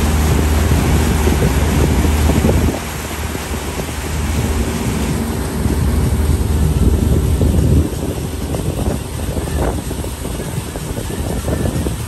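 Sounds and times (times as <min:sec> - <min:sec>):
boat motor running: 0:00.0 - 0:12.0
water rushing in a wake: 0:00.0 - 0:12.0
wind buffeting the microphone: 0:00.0 - 0:12.0.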